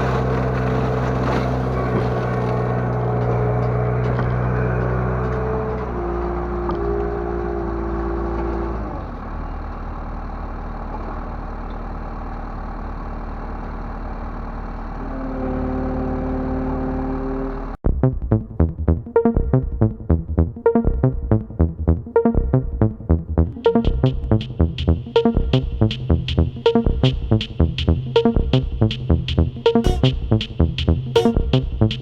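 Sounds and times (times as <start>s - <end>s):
diesel engine changing speed: 0.0s - 32.0s.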